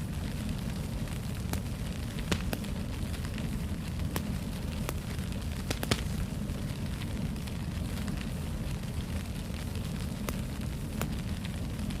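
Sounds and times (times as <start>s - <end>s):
fire crackling: 0.0s - 12.0s
low rumble of flames: 0.0s - 12.0s
sharp pops of fire: 0.0s - 12.0s.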